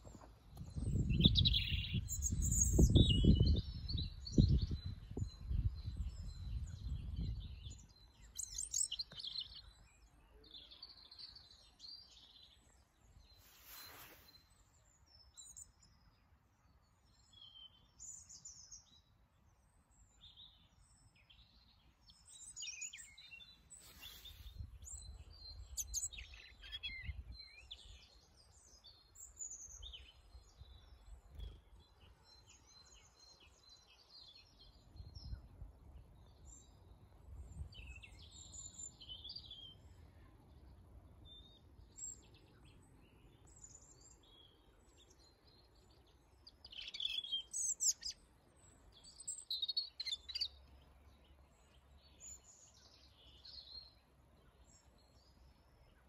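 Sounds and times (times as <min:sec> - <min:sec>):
robin singing: 0:00.1 - 0:16.2, 0:17.0 - 0:35.5, 0:41.2 - 0:56.0.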